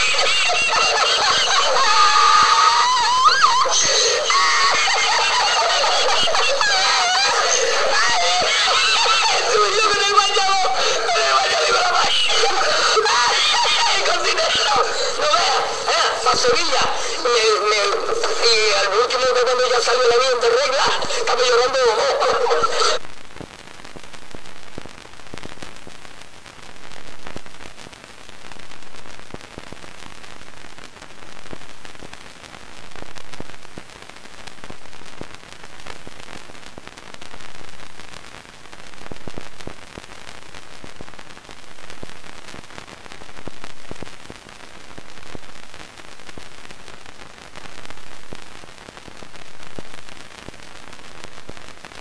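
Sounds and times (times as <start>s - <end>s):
radio static hiss: 0.0s - 52.0s.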